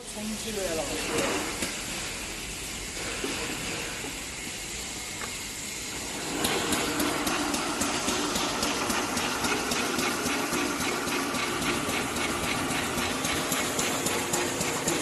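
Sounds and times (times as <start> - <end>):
packaging machine hiss and whir: 0.0 - 15.0.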